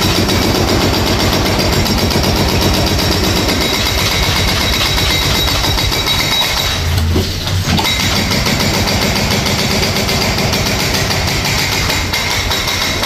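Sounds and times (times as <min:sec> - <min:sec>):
excavator engine running: 0:00.0 - 0:13.0
hydraulic breaker hammering concrete: 0:00.0 - 0:13.0.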